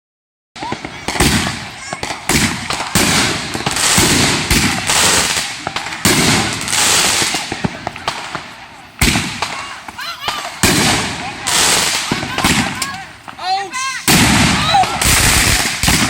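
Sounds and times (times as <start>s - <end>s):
fireworks bangs: 0.6s - 16.0s
fireworks hissing and crackling: 0.6s - 16.0s.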